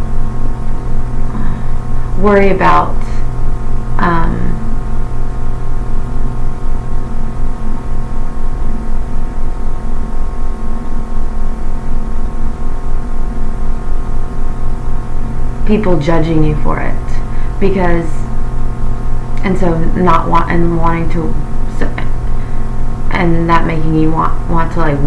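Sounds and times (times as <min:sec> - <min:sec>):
steady low hum: 0:00.0 - 0:25.0
sustained pulsing tones: 0:00.0 - 0:25.0.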